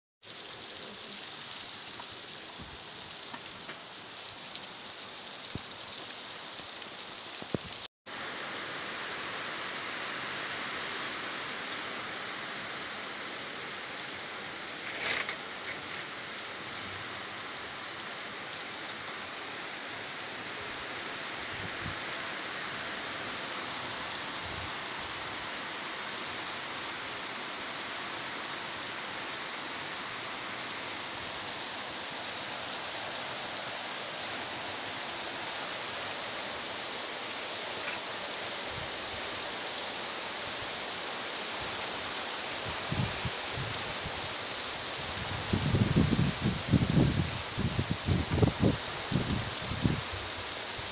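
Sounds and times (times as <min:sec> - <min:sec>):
rain falling on a street: 0:00.2 - 0:50.9.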